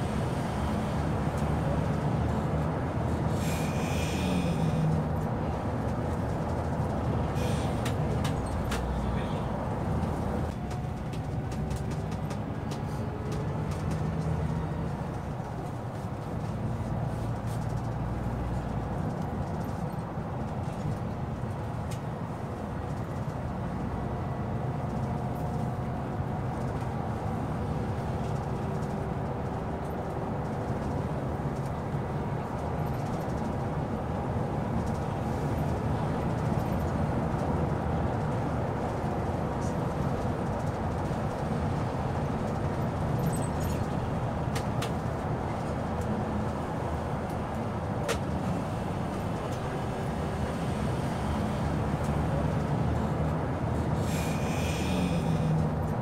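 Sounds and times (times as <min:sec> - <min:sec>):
diesel bus engine running: 0:00.0 - 0:56.0
tyre and road noise: 0:00.0 - 0:56.0.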